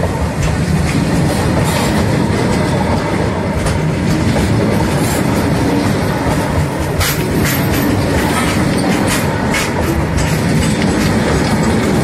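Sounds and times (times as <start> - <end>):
train wheels rumbling on rails: 0.0 - 12.0
wheels clicking over track: 0.0 - 12.0.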